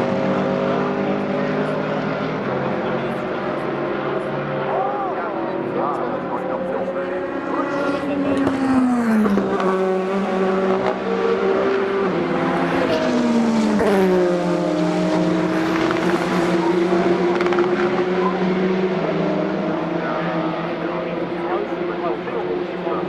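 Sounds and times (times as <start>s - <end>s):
race cars passing at speed: 0.0s - 23.0s
steady engine drone: 0.0s - 23.0s.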